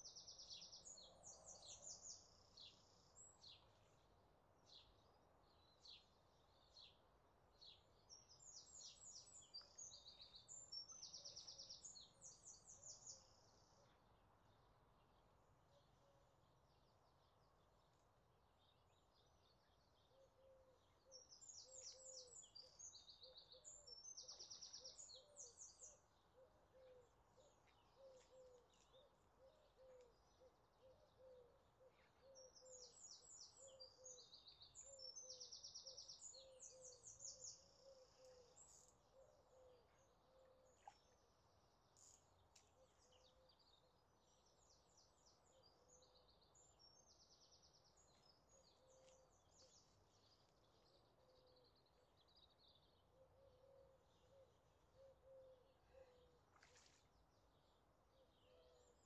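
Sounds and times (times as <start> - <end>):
faint outdoor hiss: 0.0 - 59.0.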